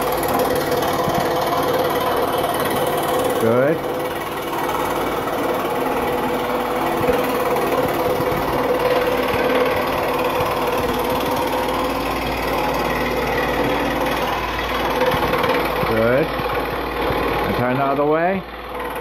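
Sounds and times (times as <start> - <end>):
scroll saw cutting wood: 0.0 - 19.0.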